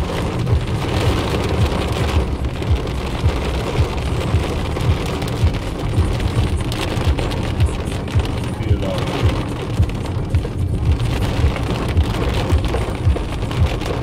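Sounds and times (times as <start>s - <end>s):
heavy rain pelting a car: 0.0s - 14.0s
low rumble: 0.0s - 14.0s.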